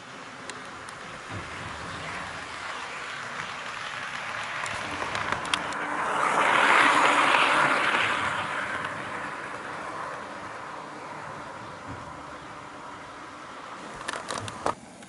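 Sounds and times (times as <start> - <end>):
model train rolling: 0.0 - 15.0.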